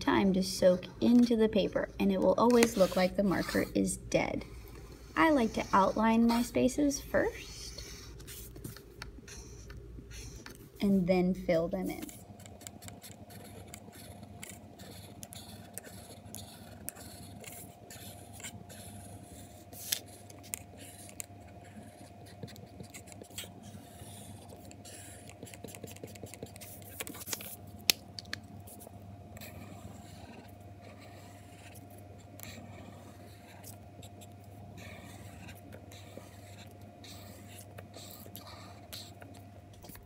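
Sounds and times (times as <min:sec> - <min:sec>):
faint steady hum: 0:00.0 - 0:40.0
marker scratching on paper: 0:02.1 - 0:03.9, 0:05.0 - 0:11.0, 0:11.8 - 0:27.6, 0:28.6 - 0:40.0.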